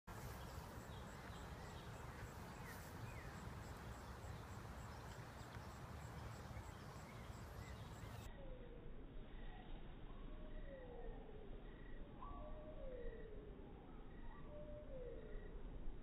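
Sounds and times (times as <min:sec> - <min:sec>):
faint bird chirps: 0:00.1 - 0:15.6.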